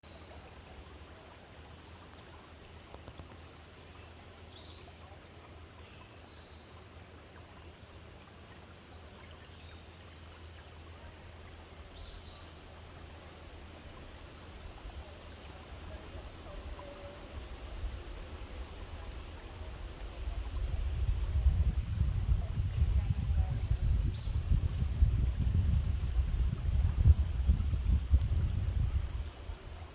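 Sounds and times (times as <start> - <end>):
river water flowing: 0.0 - 22.7, 23.6 - 29.9.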